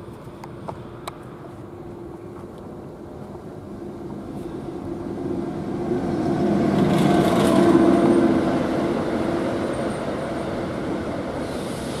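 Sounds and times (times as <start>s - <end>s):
electric locomotive hum: 0.0s - 12.0s
train wheels rumbling on rails: 0.0s - 12.0s.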